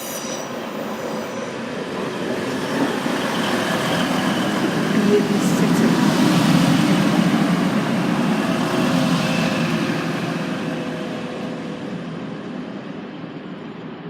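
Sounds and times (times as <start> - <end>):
diesel train engine and wheel rumble: 0.0 - 14.0.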